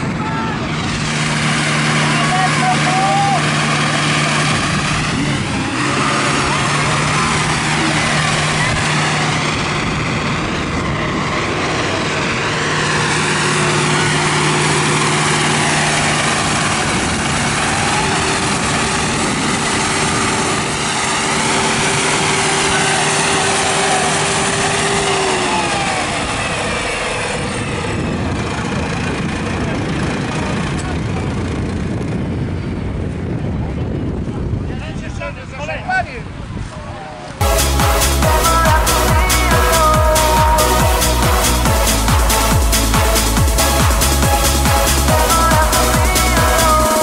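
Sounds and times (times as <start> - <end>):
tractor engines running: 0.0 - 47.0.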